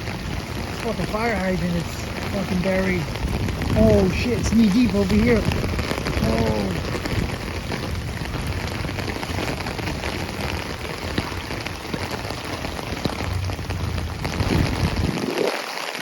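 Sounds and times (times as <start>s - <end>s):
rain falling onto water: 0.0s - 16.0s.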